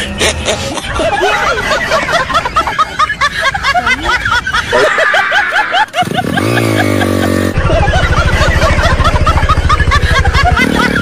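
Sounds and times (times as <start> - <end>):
high-pitched snickering laughter: 0.0 - 11.0.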